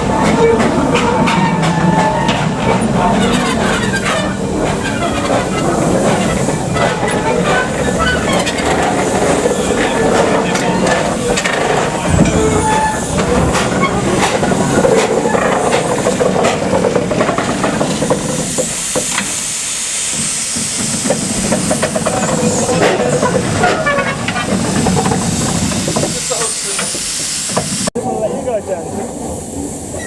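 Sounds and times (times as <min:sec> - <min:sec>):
short clanks and knocks: 0:00.0 - 0:27.9
steam hissing: 0:00.0 - 0:30.0
steam locomotive moving slowly: 0:00.0 - 0:30.0.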